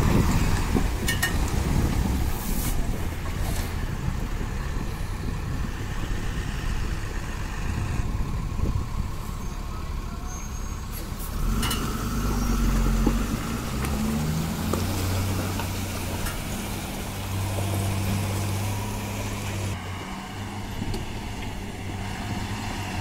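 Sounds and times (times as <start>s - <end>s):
truck diesel engine labouring: 0.0s - 23.0s.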